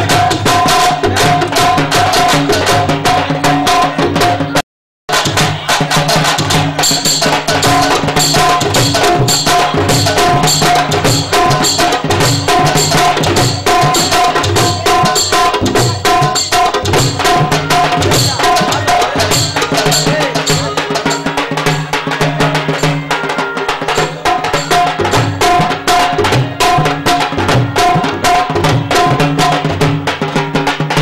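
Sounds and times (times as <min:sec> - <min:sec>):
fast percussion band music: 0:00.0 - 0:31.0
hand drums: 0:00.0 - 0:31.0.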